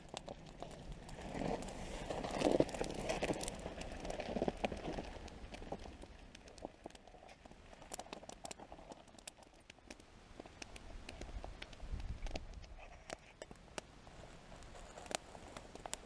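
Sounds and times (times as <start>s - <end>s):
faint sharp clicks and crackles: 0.0s - 16.0s.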